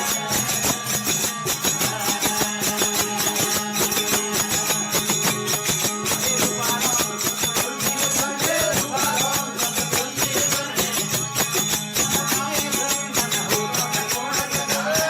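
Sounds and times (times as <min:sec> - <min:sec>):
jingling hand percussion: 0:00.0 - 0:15.0
wavering melody: 0:00.0 - 0:15.0.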